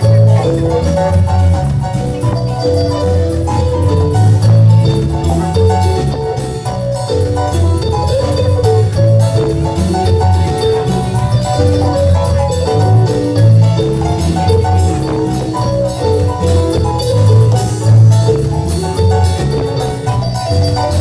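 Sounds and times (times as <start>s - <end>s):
bass line: 0.0s - 21.0s
bell-like mallet notes: 0.0s - 21.0s
drum beat: 0.0s - 21.0s.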